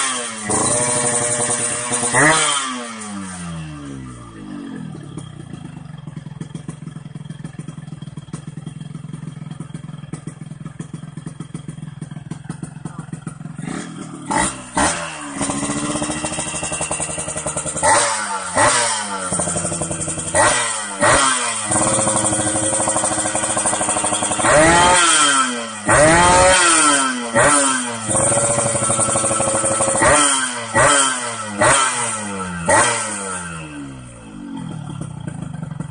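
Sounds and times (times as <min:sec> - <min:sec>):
two-stroke motorcycle engine revving: 0:00.0 - 0:35.9.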